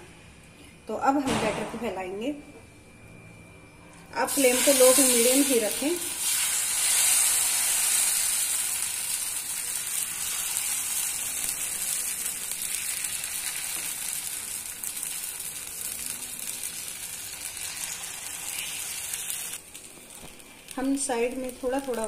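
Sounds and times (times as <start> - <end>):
batter sizzling in a frying pan: 4.3 - 22.0.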